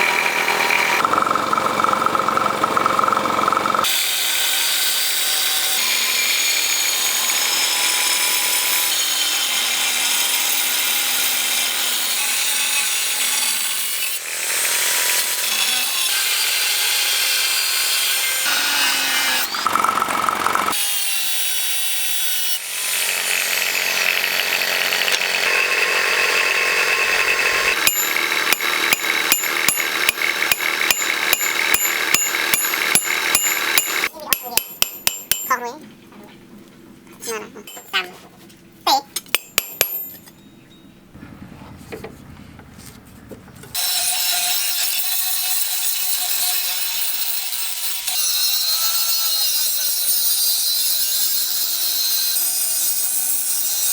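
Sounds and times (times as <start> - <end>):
power tool abrading steel: 0.0 - 35.7, 37.6 - 38.0, 38.9 - 40.4, 43.7 - 53.9.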